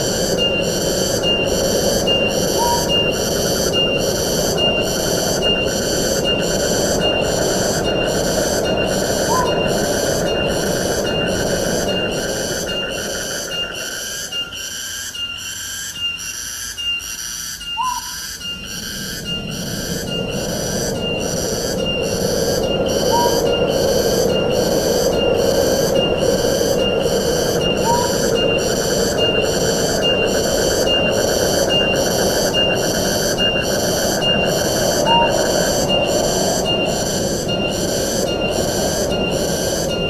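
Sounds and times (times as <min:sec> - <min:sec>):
wind rushing through foliage: 0:00.0 - 0:15.1, 0:18.2 - 0:40.0.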